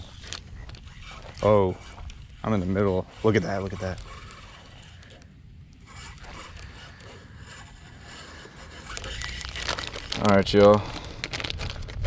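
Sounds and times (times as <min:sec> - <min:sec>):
faint scrapes and rustles: 0:00.0 - 0:12.0
fishing rod and reel handling: 0:00.0 - 0:12.0.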